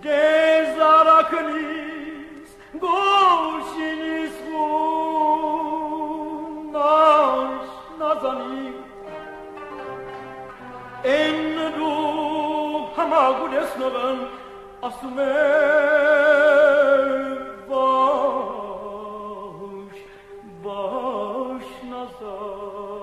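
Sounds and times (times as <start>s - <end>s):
singer with wide vibrato: 0.0s - 23.0s
sustained accompaniment: 0.0s - 23.0s.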